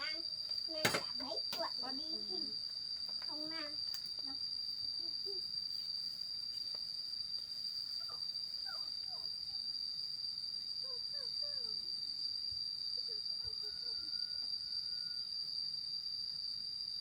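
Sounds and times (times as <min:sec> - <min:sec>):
insects high-pitched calling: 0:00.0 - 0:17.0.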